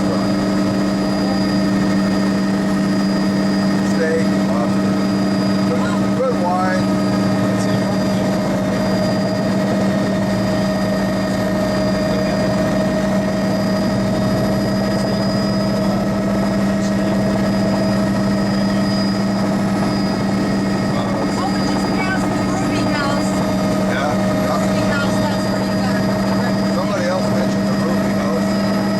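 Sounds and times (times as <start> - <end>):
helicopter engine and rotor drone: 0.0 - 28.9.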